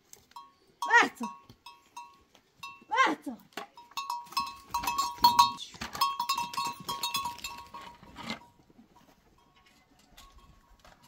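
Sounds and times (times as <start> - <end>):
sheep bell clanking: 0.2 - 2.9, 3.6 - 11.0.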